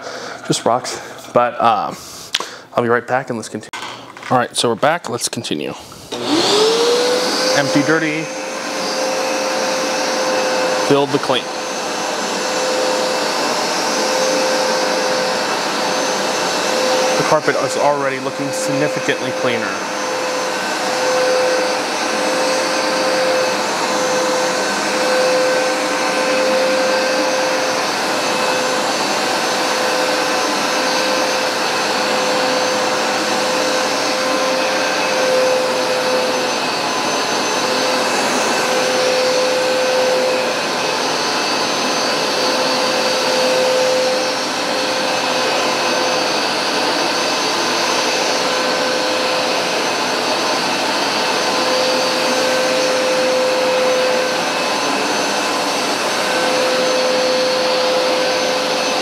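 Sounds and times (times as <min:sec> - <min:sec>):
rushing suction: 0:05.8 - 0:59.0
carpet cleaner motor whine: 0:05.9 - 0:59.0.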